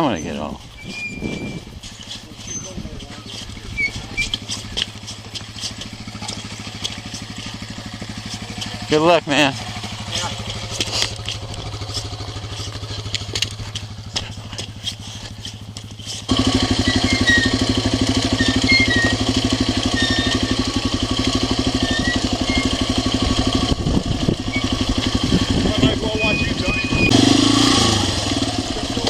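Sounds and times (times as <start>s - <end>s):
dirt bike engine idling: 0.0s - 29.0s.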